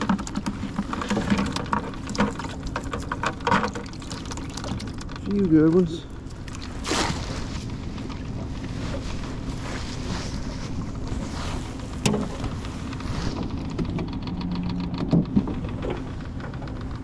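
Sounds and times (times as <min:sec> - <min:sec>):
boat motor humming: 0:00.0 - 0:17.0
water: 0:00.0 - 0:17.0
wind: 0:00.0 - 0:17.0.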